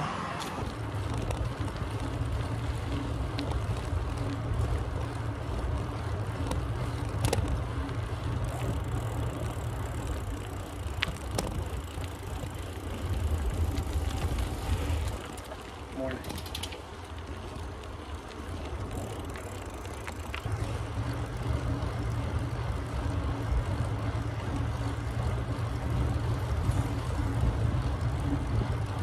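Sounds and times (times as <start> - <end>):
wind and tyre rumble: 0.0 - 29.0
sharp bike clicks: 0.2 - 29.0.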